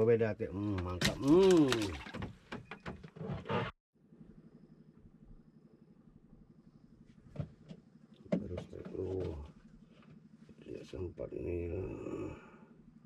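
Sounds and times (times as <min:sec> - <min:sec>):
small engine pulsing hum: 0:01.3 - 0:13.0.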